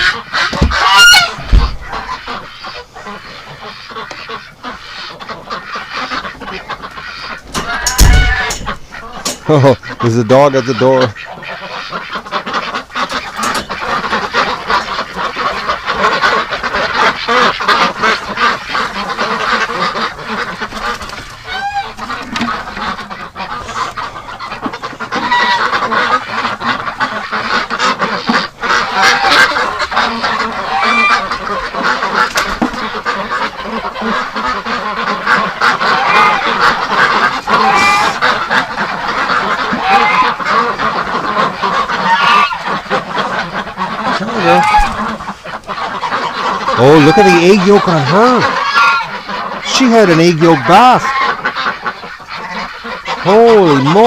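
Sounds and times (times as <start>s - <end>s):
drawn-out duck calls: 0.0s - 54.0s
ducks quacking and honking: 0.0s - 54.0s.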